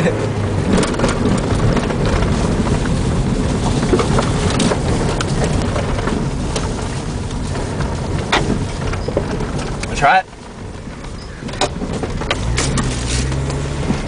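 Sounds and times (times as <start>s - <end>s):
tyre and road noise: 0.0s - 14.0s
stones clicking against car: 0.6s - 14.0s.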